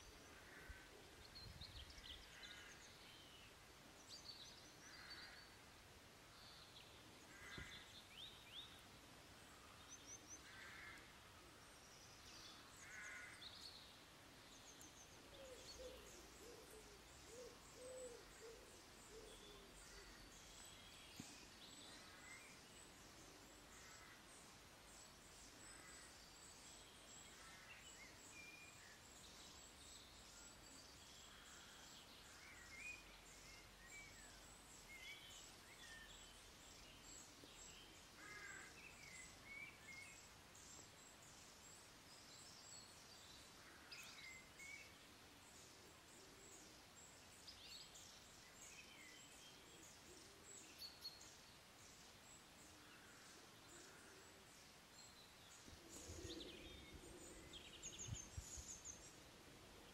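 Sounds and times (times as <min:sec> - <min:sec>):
faint bird chirps: 0:06.3 - 0:59.9.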